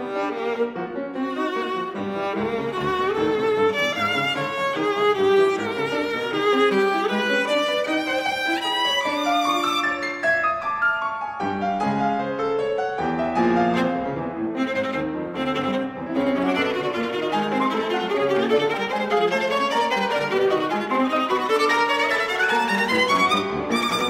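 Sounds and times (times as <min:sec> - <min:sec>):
viola bowed melody: 0:00.0 - 0:10.9, 0:13.0 - 0:24.0
piano notes: 0:00.0 - 0:24.0.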